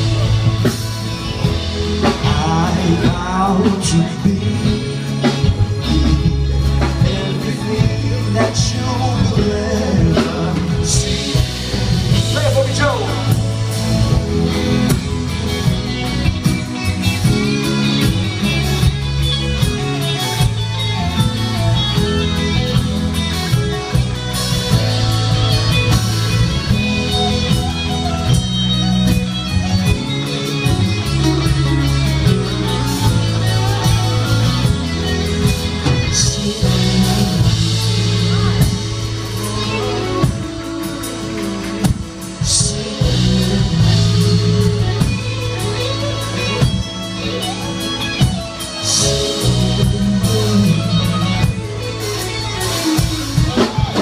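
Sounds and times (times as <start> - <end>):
live band with guitar: 0.0 - 54.0.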